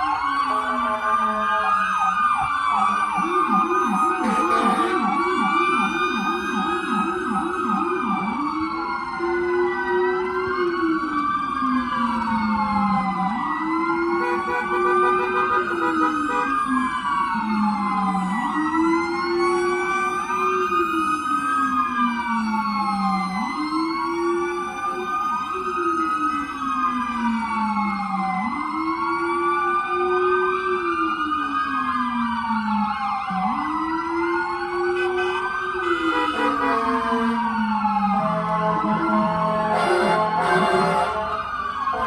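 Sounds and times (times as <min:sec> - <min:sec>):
sirens wailing: 0:00.0 - 0:42.0.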